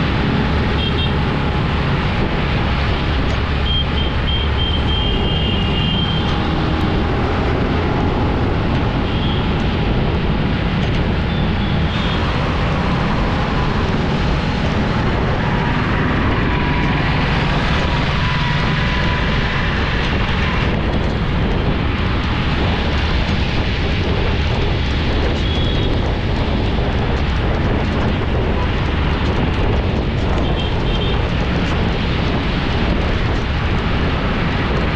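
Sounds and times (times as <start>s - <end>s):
vehicle road noise rush: 0.0s - 34.9s.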